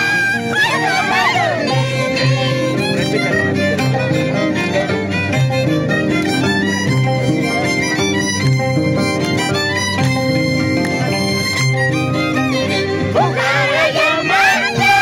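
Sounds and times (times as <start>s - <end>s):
violin dance tune: 0.0s - 15.0s.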